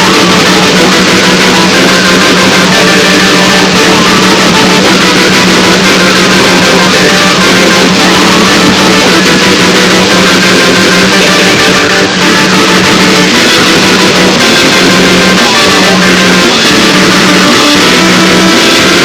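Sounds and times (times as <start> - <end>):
distorted wall of noise: 0.0 - 19.0
low drone: 0.0 - 19.0.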